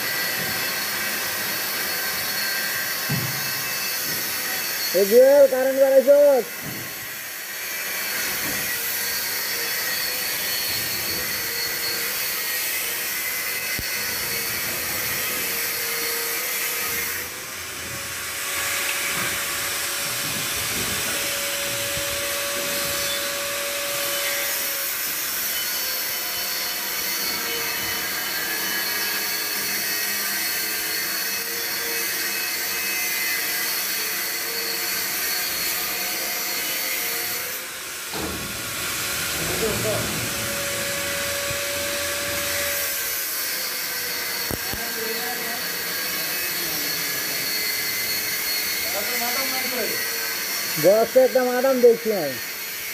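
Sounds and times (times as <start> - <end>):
welding arc hissing: 0.0 - 52.9.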